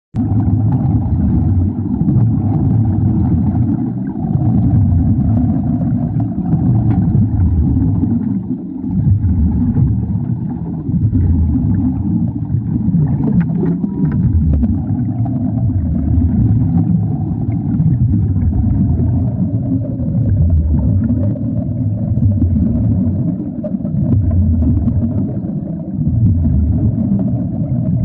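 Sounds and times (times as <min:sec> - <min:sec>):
faint crackles: 0:00.2 - 0:28.0
underwater welding rumble: 0:00.2 - 0:28.0.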